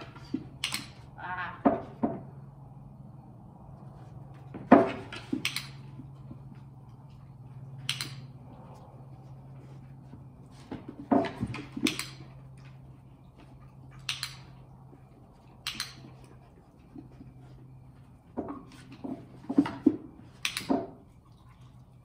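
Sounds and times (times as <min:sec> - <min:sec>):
low hum: 0:00.0 - 0:19.4.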